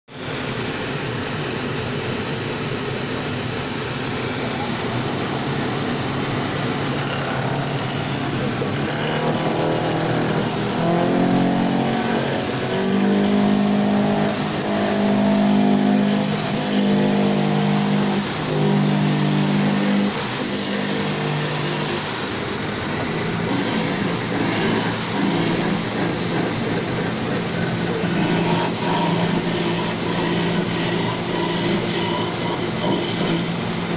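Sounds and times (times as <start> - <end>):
wood lathe machine running: 4.0 - 33.9.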